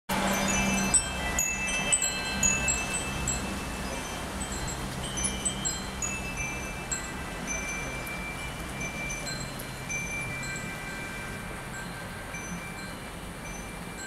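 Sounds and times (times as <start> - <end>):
metal wind chimes ringing: 0.1 - 14.0.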